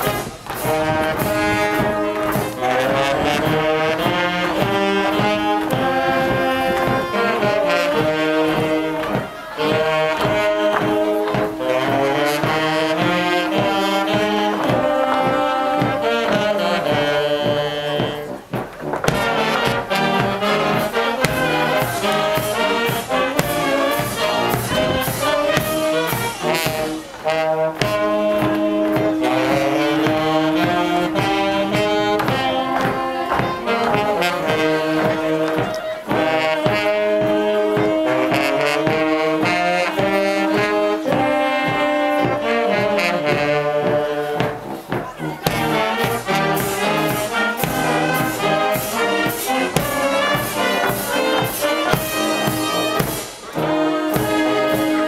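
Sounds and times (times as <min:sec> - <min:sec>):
brass band playing a march: 0:00.0 - 0:55.0.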